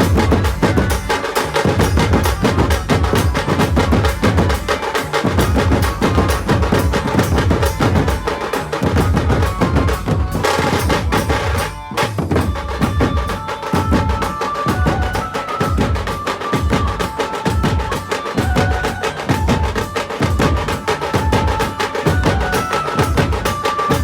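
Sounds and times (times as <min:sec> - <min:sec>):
drum-heavy music: 0:00.0 - 0:24.0
held melody line: 0:00.0 - 0:24.0.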